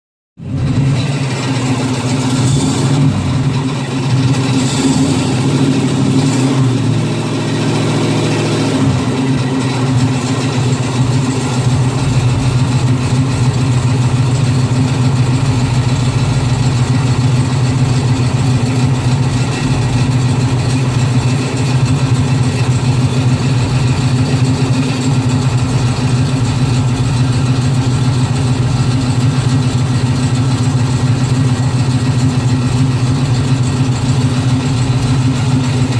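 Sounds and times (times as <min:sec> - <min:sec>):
car engine idling: 0:00.4 - 0:35.9
higher tone over engine hum: 0:00.5 - 0:35.9.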